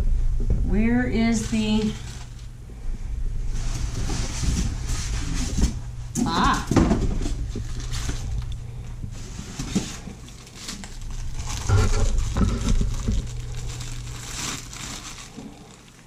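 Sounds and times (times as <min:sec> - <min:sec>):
plastic bag rustling: 0:01.2 - 0:02.6, 0:03.5 - 0:16.0.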